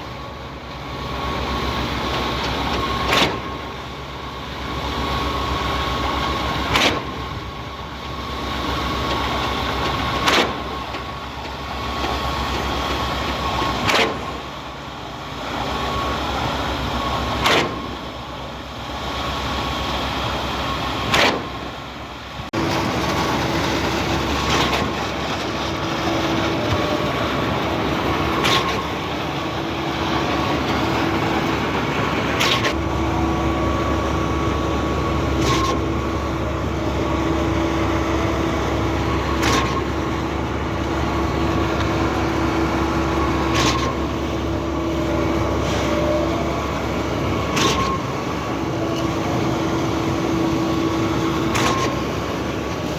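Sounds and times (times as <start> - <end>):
engine drone: 0.0 - 52.9.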